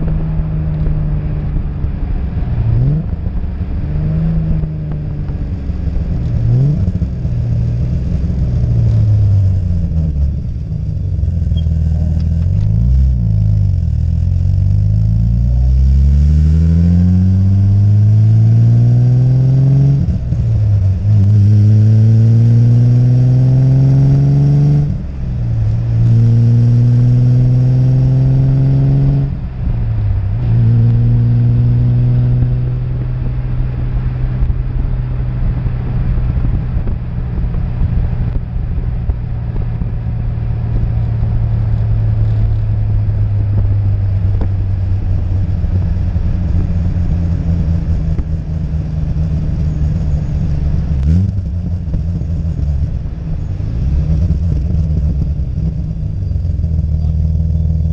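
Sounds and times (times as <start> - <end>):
car exhaust accelerating through gears: 0.0 - 57.9.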